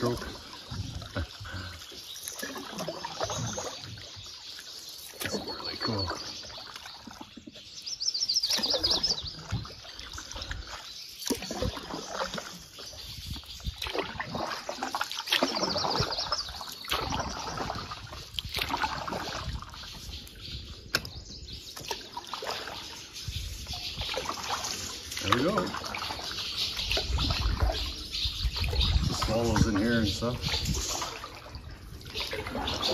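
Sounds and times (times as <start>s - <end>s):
paddle splashing into water: 0.0s - 7.4s, 8.4s - 20.0s, 21.7s - 23.1s, 23.9s - 32.9s.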